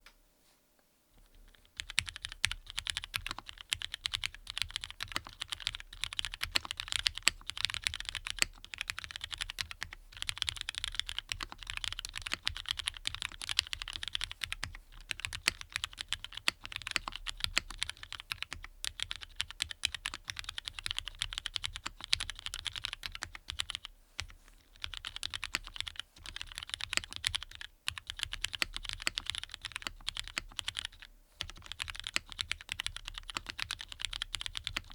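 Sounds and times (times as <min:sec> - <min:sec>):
fast typing on mechanical keyboard: 0:01.2 - 0:34.9.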